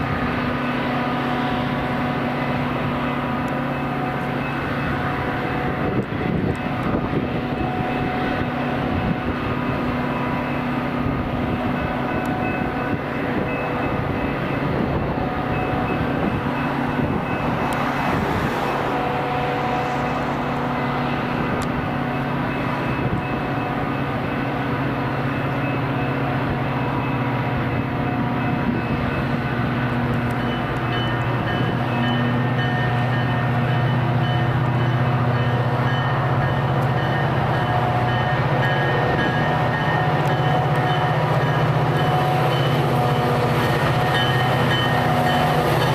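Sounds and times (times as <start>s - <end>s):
locomotive engine drone: 0.0s - 45.9s
rail and wheel noise: 0.0s - 45.9s.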